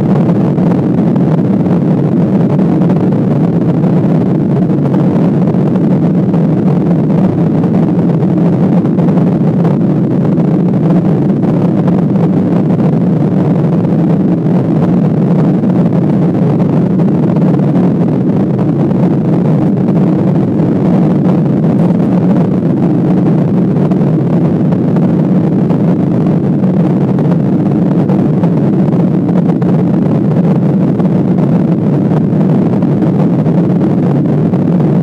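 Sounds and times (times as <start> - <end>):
airplane cabin engine drone: 0.0 - 35.0.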